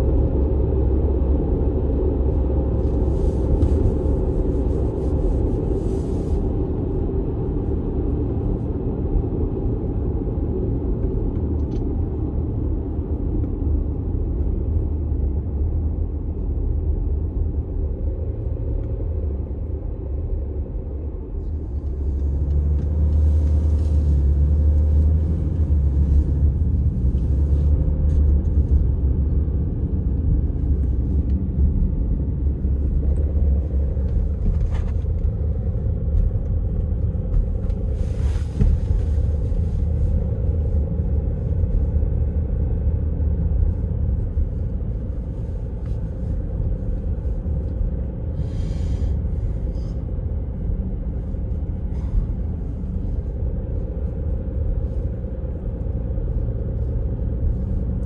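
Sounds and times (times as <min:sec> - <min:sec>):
diesel vehicle driving: 0:00.0 - 0:58.0.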